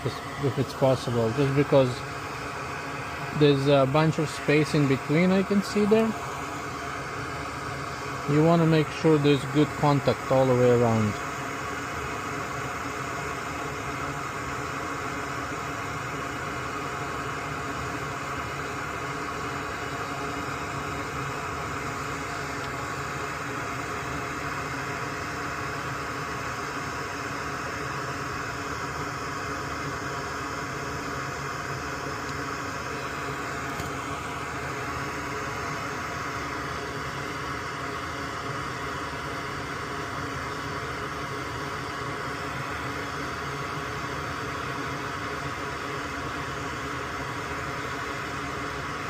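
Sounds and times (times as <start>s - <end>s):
small fan hissing: 0.0s - 49.0s.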